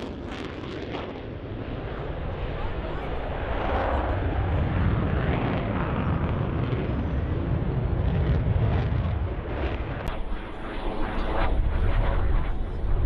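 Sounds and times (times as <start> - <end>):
deep jet engine noise: 0.0 - 13.0.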